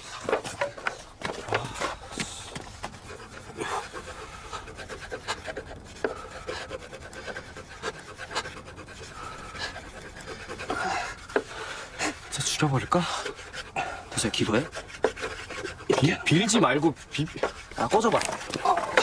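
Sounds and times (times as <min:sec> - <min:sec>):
heavy strained breathing: 0:00.0 - 0:19.0
wood rubbing on wood: 0:00.0 - 0:19.0.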